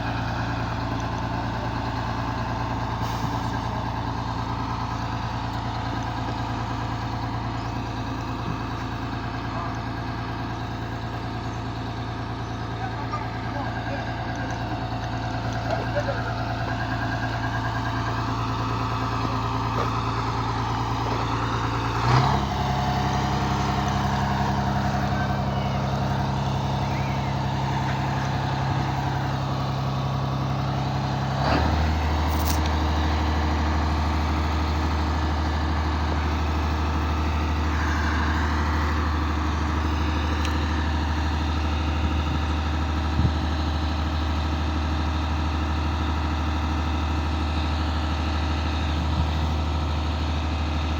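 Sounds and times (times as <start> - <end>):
heavy engine running: 0.0 - 50.9.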